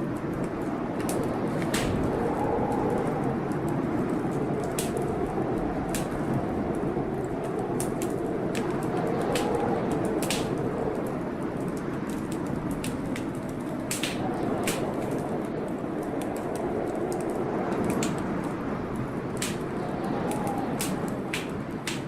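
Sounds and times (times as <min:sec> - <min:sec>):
rainstorm rushing: 0:00.0 - 0:22.0
wood fire crackling and popping: 0:00.0 - 0:22.0.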